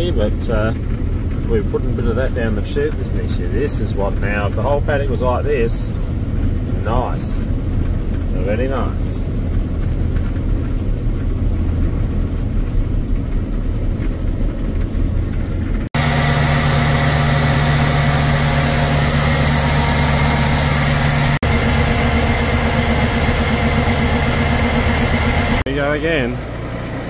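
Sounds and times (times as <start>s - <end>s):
combine harvester engine drone: 0.0s - 27.0s
engine with steady whine: 0.0s - 27.0s.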